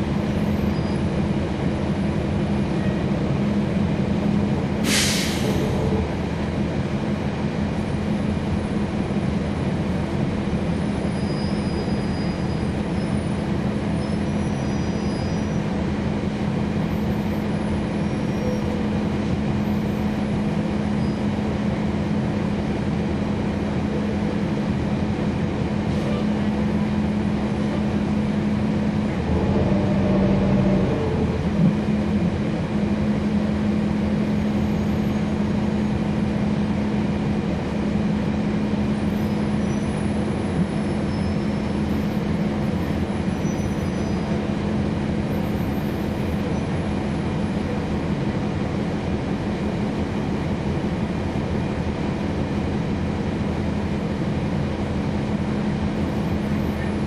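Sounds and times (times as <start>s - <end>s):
bus transmission drone: 0.0s - 57.0s
faint diesel engine: 0.0s - 57.0s.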